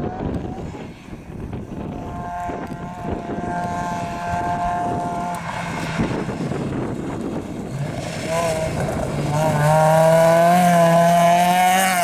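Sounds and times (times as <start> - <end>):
car engine at high revs: 0.0 - 12.0
wind rumbling on microphone: 0.0 - 12.0.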